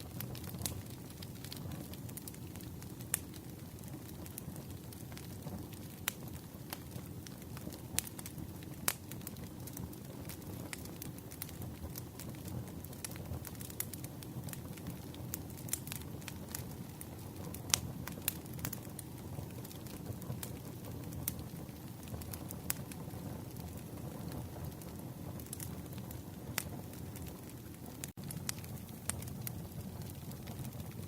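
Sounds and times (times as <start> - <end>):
campfire flames rumbling: 0.0 - 31.0
wood crackling and popping: 0.0 - 31.0.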